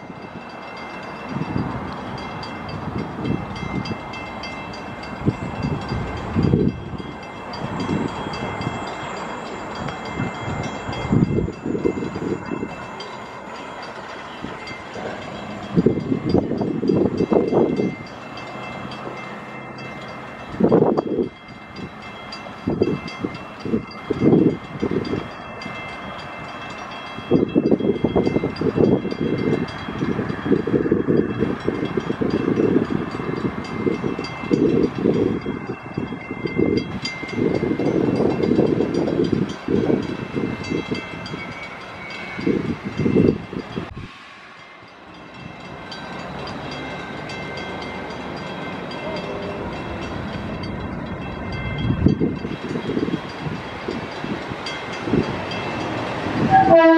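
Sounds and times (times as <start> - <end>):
train running noise: 0.0 - 56.9.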